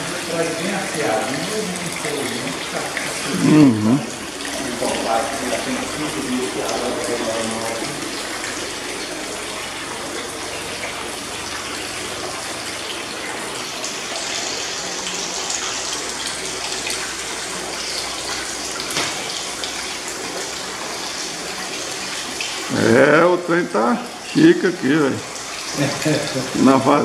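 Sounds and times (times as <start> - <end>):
juice pouring into a trough: 0.0 - 27.0.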